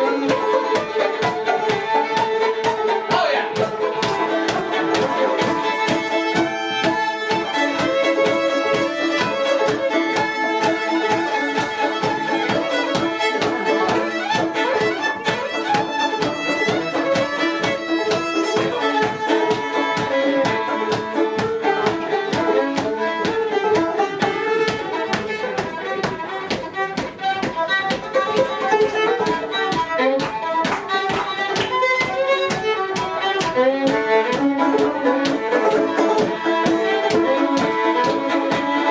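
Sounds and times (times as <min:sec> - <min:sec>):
fiddle playing lively tune: 0:00.0 - 0:38.9
rhythmic accompaniment beat: 0:00.0 - 0:38.9.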